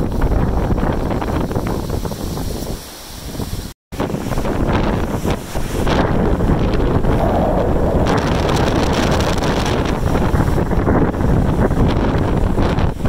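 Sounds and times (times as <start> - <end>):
choppy water washing: 0.0 - 13.0
strong wind buffeting microphone: 0.0 - 13.0
waves breaking on rocky shore: 0.0 - 13.0.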